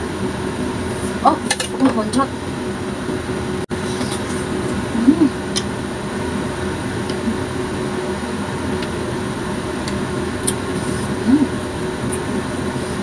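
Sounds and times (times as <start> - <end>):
droning background hum: 0.0 - 13.0.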